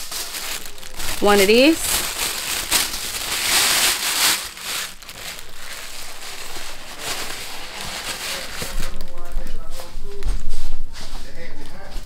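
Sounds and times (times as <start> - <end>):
tissue paper crinkling: 0.0 - 11.1.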